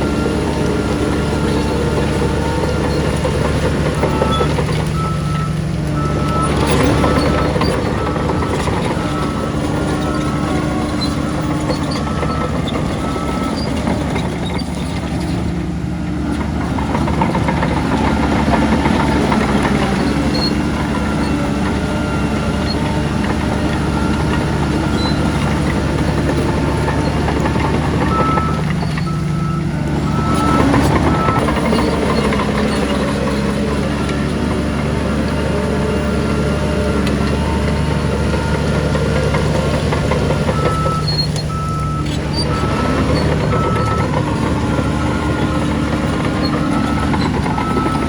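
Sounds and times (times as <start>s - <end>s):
reversing alarm beeping: 0.0s - 15.0s, 16.9s - 48.0s
heavy diesel machinery running: 0.0s - 48.0s.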